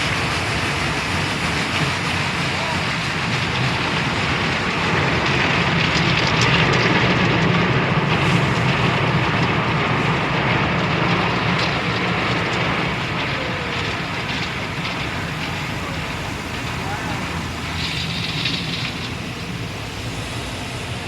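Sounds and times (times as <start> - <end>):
car wash spray and machinery: 0.0 - 21.0.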